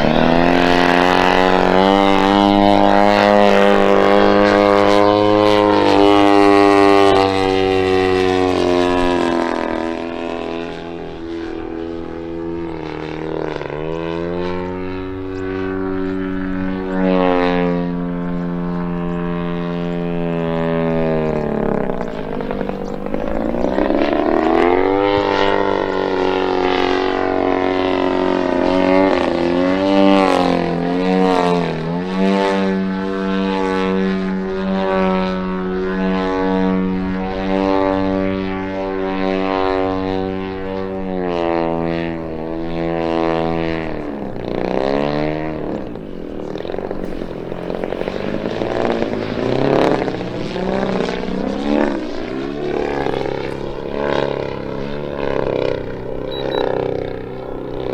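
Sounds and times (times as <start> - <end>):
model plane engine and propeller: 0.0 - 57.9.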